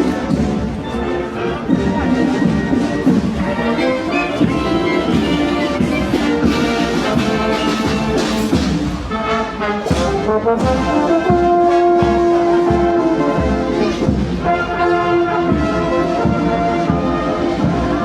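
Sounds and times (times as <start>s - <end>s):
brass marching band playing: 0.0s - 18.0s.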